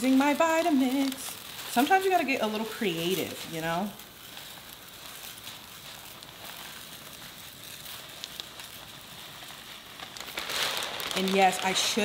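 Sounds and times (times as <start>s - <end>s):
rice pouring into plastic jar: 0.0s - 12.0s.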